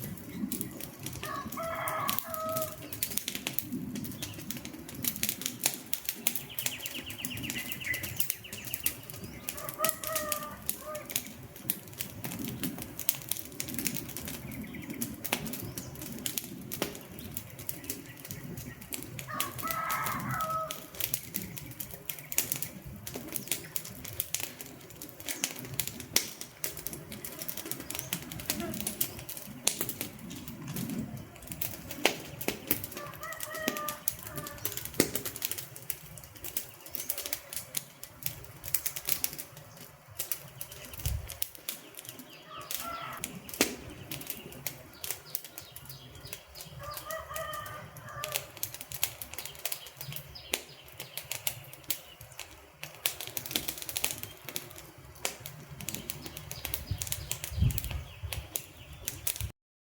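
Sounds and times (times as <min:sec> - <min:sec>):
wood fire crackling and popping: 0:00.0 - 0:59.6.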